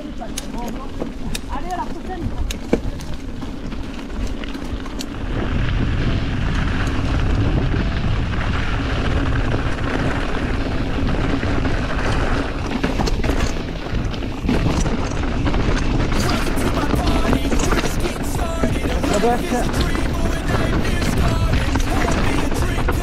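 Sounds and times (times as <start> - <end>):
bike tyres rolling over stones: 0.0 - 23.0
wind on microphone: 0.9 - 23.0.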